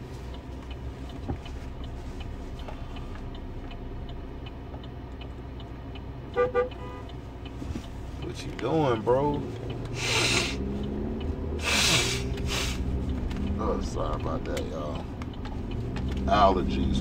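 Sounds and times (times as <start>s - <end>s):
regular ticking: 0.0s - 17.0s
road rumble in car: 0.0s - 17.0s.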